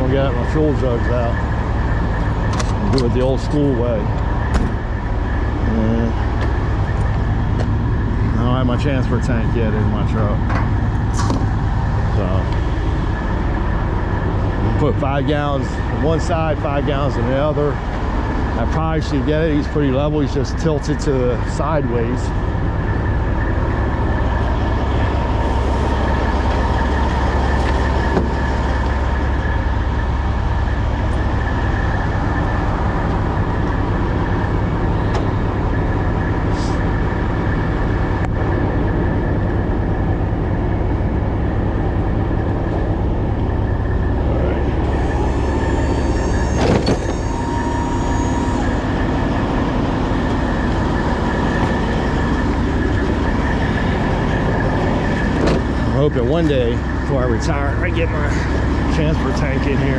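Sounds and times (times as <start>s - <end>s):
diesel engines idling: 0.0s - 59.9s.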